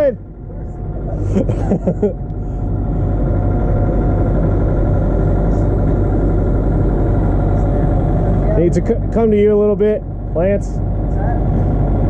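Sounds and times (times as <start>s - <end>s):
backhoe diesel engine droning: 0.0s - 12.0s.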